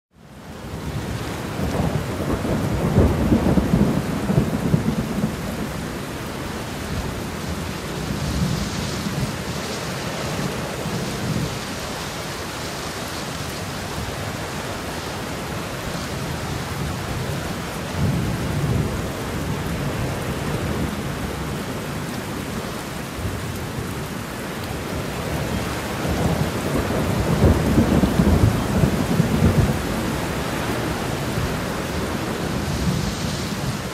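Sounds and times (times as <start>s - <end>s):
rain on a windowpane: 0.1s - 33.9s.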